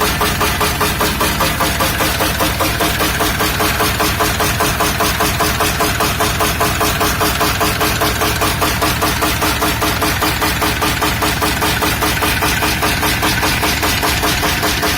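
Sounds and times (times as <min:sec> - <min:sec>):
engine knocking: 0:00.0 - 0:14.9
petrol engine idling: 0:00.0 - 0:14.9.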